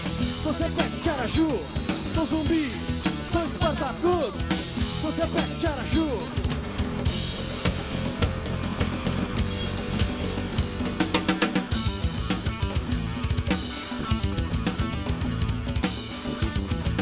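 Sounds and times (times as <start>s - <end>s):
drum beat: 0.0s - 17.0s
electric guitar: 0.0s - 17.0s.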